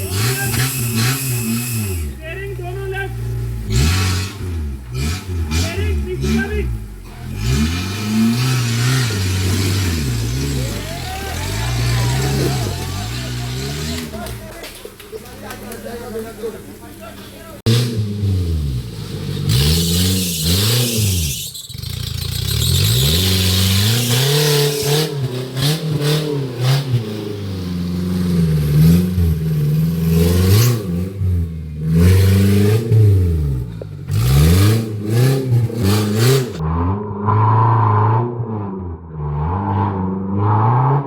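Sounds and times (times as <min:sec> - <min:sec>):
engine revving: 0:00.0 - 0:41.0.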